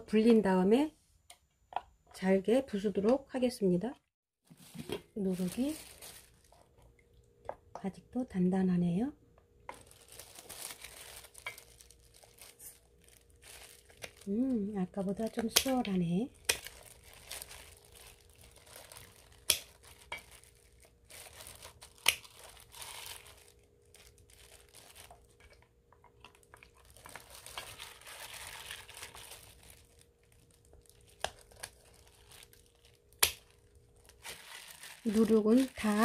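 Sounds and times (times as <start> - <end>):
plastic glove crinkling: 4.4 - 7.0, 9.6 - 36.0.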